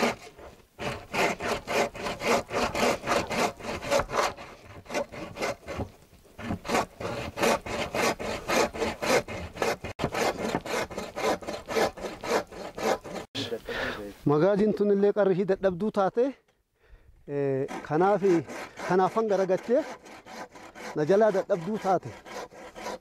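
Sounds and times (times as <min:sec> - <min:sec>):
bow saw cutting wood: 0:00.0 - 0:13.3, 0:17.6 - 0:23.0.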